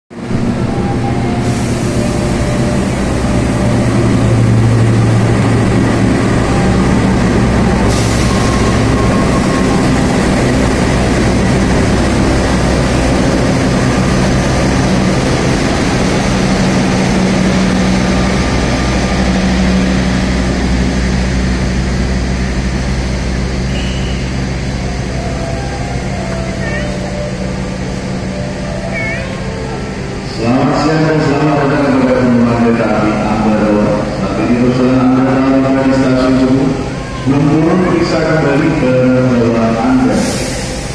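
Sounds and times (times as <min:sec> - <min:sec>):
diesel locomotive engine drone: 0:00.1 - 0:40.9.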